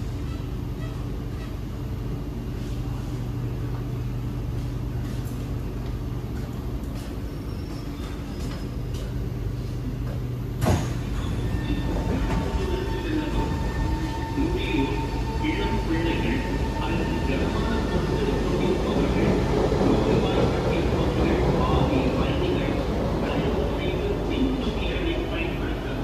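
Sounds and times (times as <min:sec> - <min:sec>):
metro train rumble inside carriage: 0:00.0 - 0:26.0.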